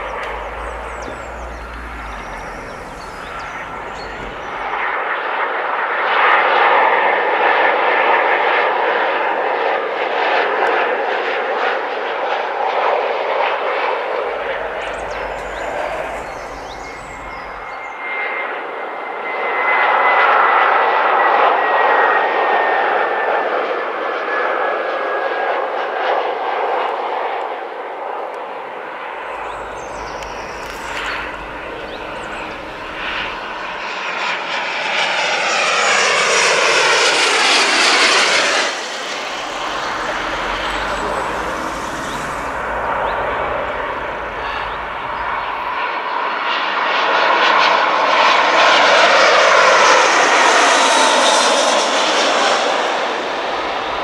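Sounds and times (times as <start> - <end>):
jet airliner flying over: 0.0 - 54.0.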